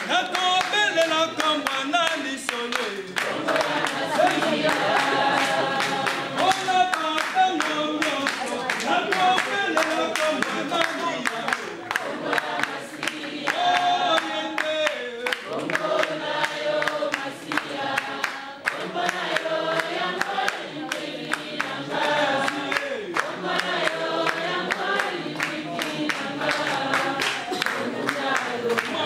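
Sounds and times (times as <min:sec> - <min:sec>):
group singing: 0:00.0 - 0:29.0
rhythmic hand clapping: 0:00.0 - 0:29.0.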